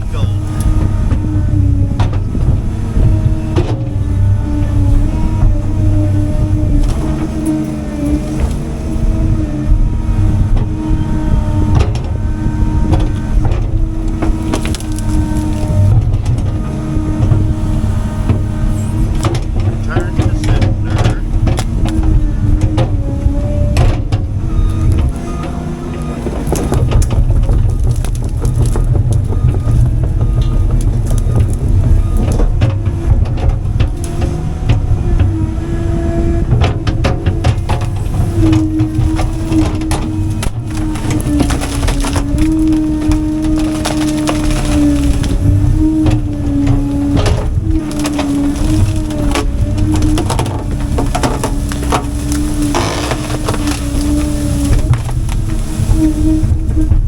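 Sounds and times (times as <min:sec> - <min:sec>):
excavator diesel engine: 0:00.0 - 0:57.0
hydraulic whine: 0:00.0 - 0:57.0
wood cracking and knocking: 0:00.0 - 0:57.0.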